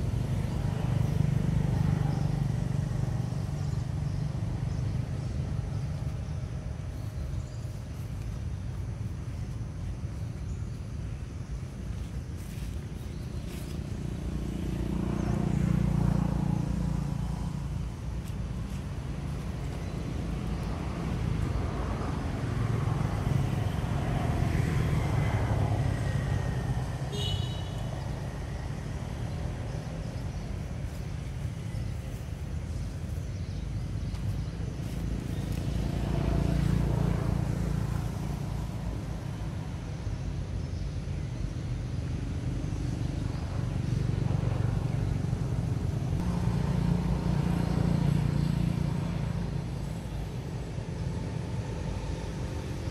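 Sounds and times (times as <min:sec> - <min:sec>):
traffic rumble: 0:00.0 - 0:52.9.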